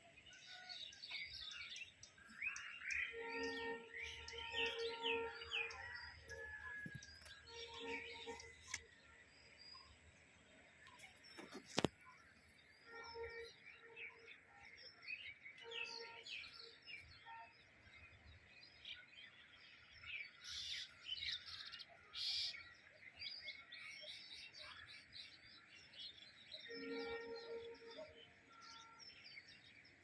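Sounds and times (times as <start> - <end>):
birds chirping: 0.0 - 30.0
low steady bird call: 0.0 - 30.0.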